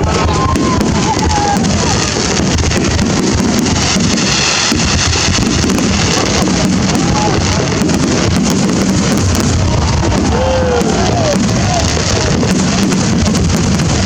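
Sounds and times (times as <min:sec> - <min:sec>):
fireworks crackling and banging: 0:00.0 - 0:14.0
whistling fireworks: 0:00.0 - 0:14.0.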